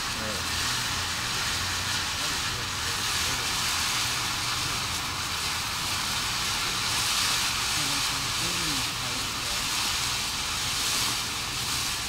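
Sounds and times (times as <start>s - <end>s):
firework spraying sparks hiss: 0.0s - 12.0s.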